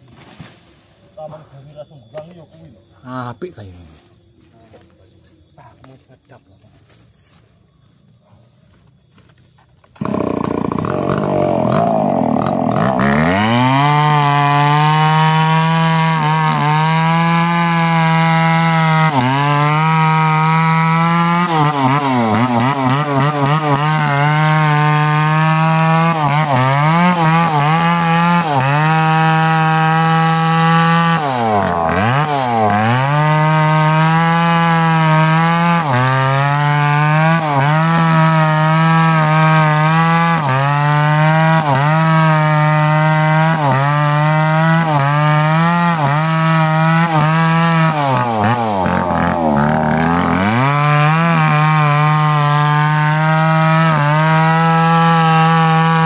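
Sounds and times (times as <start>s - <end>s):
chainsaw cutting wood: 9.2s - 56.0s.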